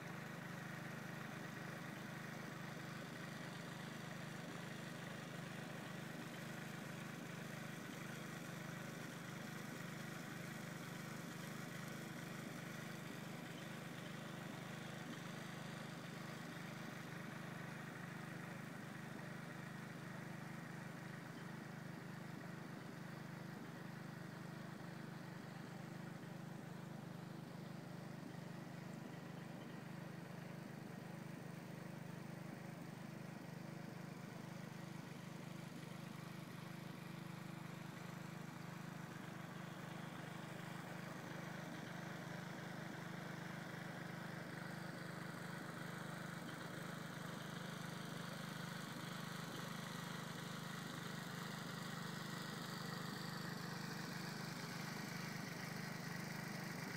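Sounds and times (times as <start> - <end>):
pump motor droning: 0.0 - 56.9.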